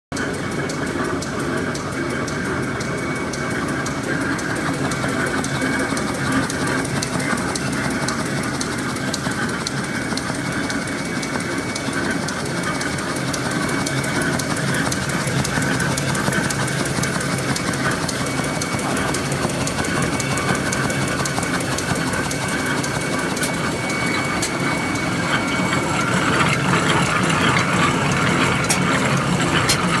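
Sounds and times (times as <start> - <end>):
machine rollers clattering: 0.2 - 30.0
thin machine whine: 0.2 - 30.0.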